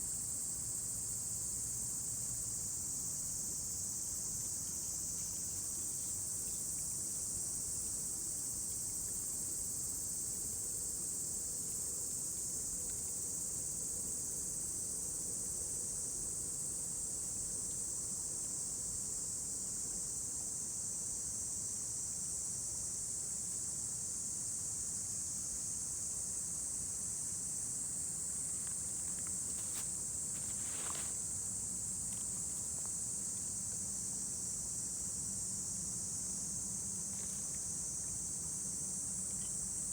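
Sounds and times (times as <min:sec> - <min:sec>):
insects droning: 0:00.0 - 0:22.3, 0:23.8 - 0:39.9.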